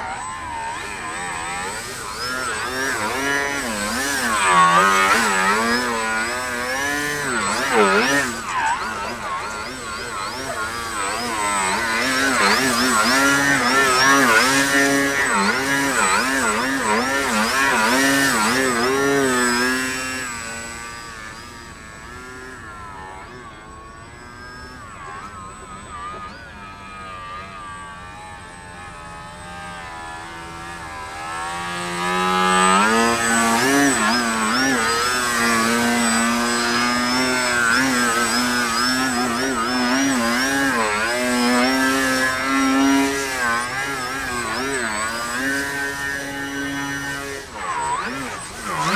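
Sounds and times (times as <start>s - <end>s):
model plane motor and propeller: 0.0s - 48.9s.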